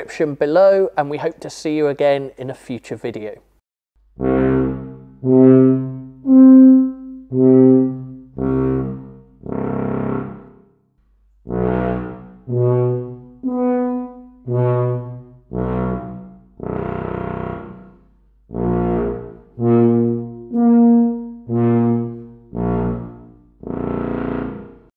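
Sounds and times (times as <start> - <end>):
tuba playing detached notes: 4.2 - 10.6, 11.4 - 24.9.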